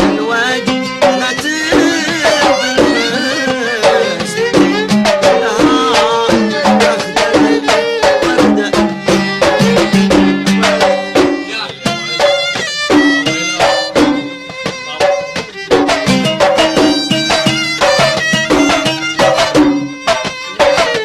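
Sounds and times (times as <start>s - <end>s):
hand drums: 0.0s - 21.0s
violin melody: 0.0s - 21.0s.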